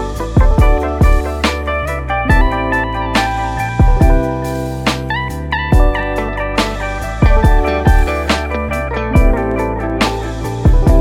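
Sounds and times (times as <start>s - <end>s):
deep beat: 0.0s - 11.0s
plucked sliding guitar: 0.0s - 11.0s
steady bass: 0.0s - 11.0s.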